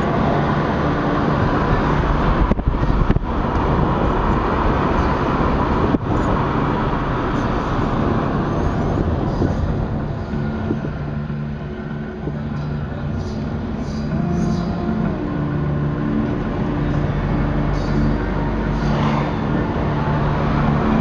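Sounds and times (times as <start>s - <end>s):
car road and wind noise: 0.0s - 21.0s.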